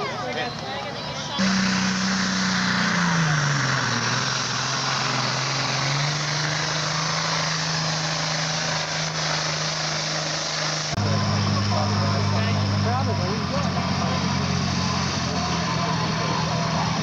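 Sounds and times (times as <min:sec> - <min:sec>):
tractor diesel engine running hard: 0:00.0 - 0:17.0.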